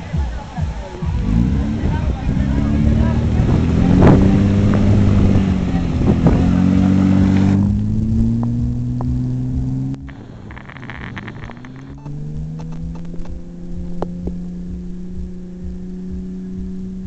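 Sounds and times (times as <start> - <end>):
rally car engine running: 0.0 - 17.0.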